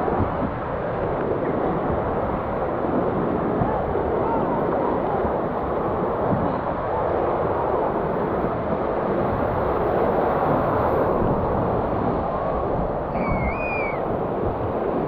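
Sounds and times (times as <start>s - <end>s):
surf breaking and washing: 0.0s - 15.0s.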